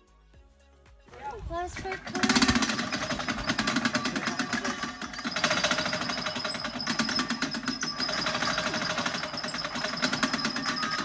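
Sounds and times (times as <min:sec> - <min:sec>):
fast mechanical rattle: 0:01.1 - 0:11.0.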